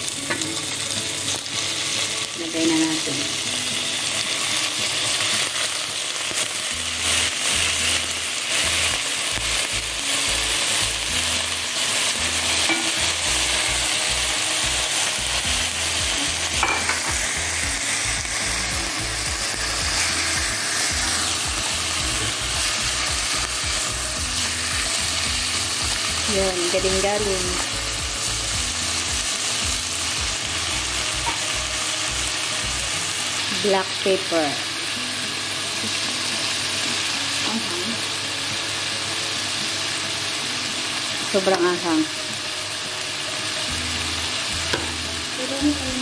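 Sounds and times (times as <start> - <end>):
chicken sizzling in hot oil: 0.0 - 46.0.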